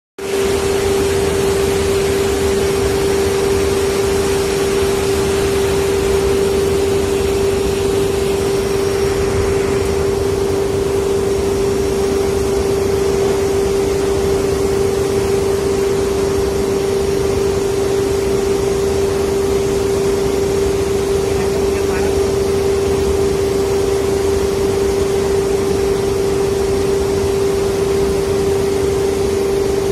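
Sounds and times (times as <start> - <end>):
machinery hum: 0.2 - 29.9
rushing noise: 0.2 - 29.9.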